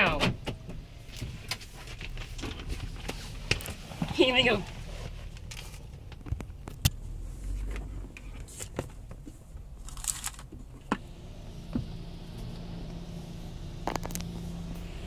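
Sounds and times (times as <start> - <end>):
low steady rumble: 0.0 - 15.0
low steady hum: 0.2 - 15.0.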